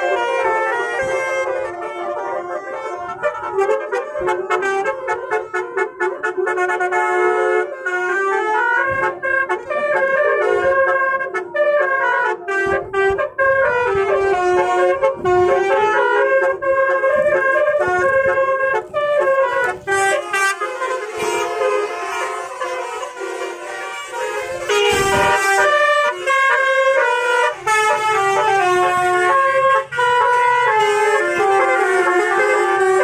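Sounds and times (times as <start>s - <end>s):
air horn melody: 0.0s - 33.0s.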